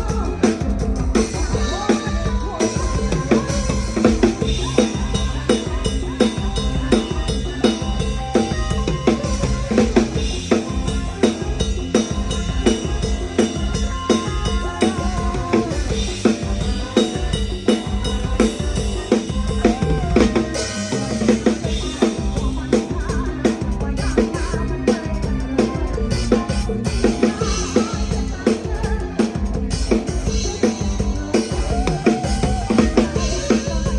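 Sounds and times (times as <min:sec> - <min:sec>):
band bass and melody instruments: 0:00.0 - 0:33.9
drum kit beat: 0:00.0 - 0:33.9.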